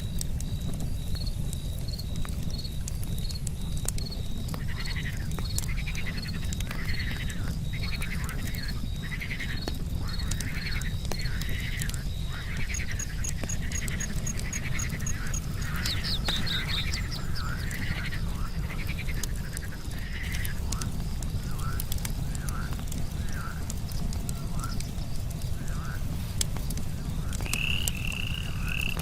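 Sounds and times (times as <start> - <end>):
campfire crackling: 0.0 - 29.0
cricket chirping: 0.0 - 29.0
frogs croaking: 0.0 - 29.0.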